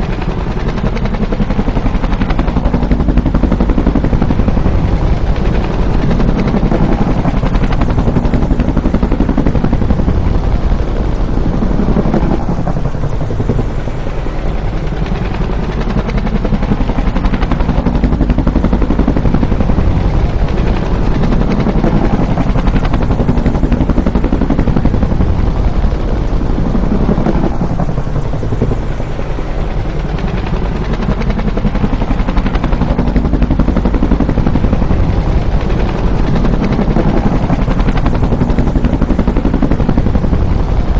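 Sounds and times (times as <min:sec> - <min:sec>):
helicopter flying past: 0:00.0 - 0:40.9.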